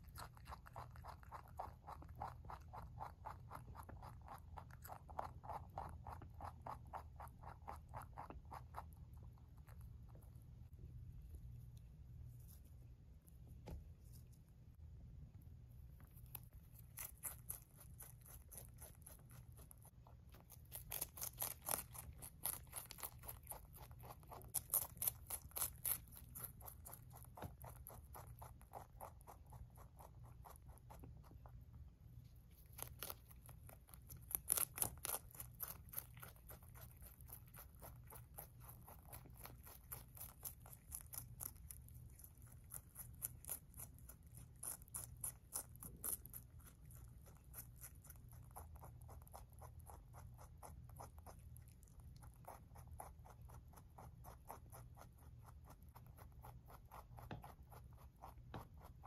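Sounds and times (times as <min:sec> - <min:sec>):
rabbit chewing lettuce: 0:00.0 - 0:59.0.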